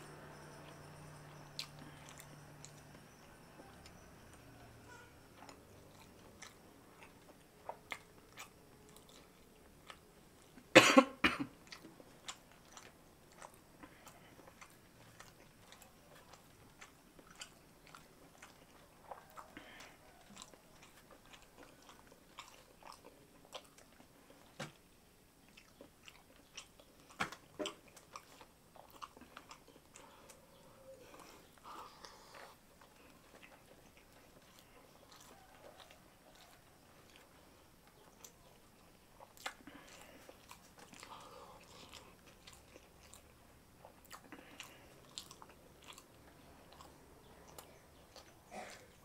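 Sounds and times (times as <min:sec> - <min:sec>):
chewing mouth sounds: 0:00.1 - 0:10.7, 0:11.5 - 0:24.6, 0:25.4 - 0:49.0.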